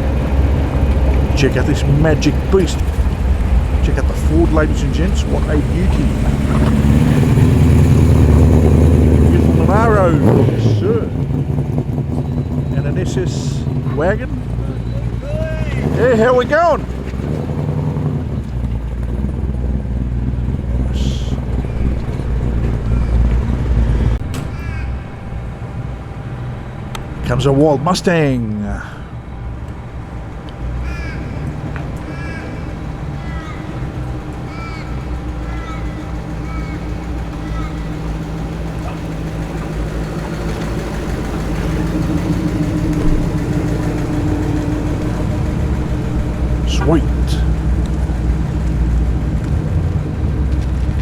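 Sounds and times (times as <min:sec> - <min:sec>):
car engine rumbling: 0:00.0 - 0:51.0.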